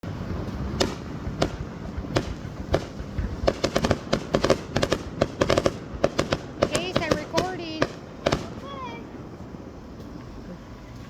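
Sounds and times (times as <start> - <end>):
fireworks bangs: 0.0 - 10.7.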